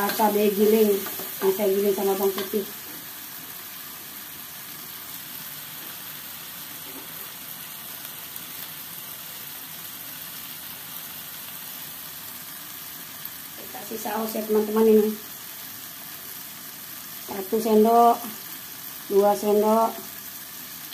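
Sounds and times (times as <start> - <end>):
vegetables sizzling in a wok: 0.0 - 20.9.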